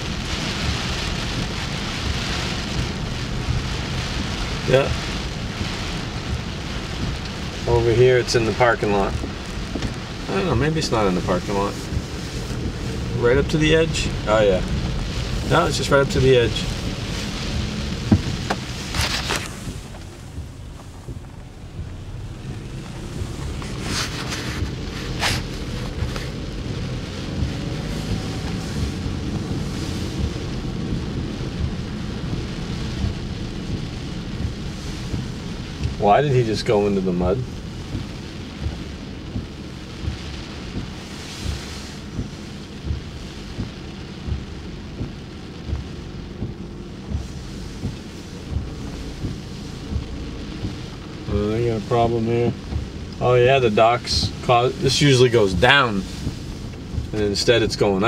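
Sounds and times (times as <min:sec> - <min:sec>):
car low drone: 0:00.0 - 0:58.0
storm wind buffeting microphone: 0:00.0 - 0:58.0.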